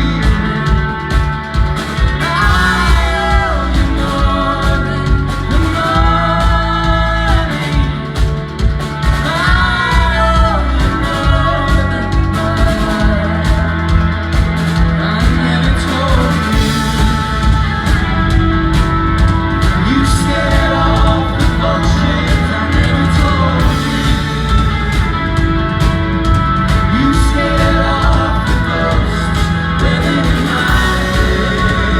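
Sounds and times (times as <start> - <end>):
person singing: 0.0 - 25.3, 26.5 - 31.9
bass and guitar chords: 0.0 - 31.9
drum kit beat: 0.0 - 31.9.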